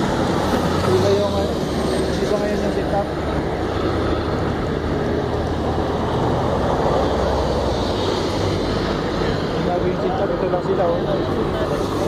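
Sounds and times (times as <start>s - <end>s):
bus passing: 0.0s - 12.0s
heavy vehicles driving past: 0.0s - 12.0s.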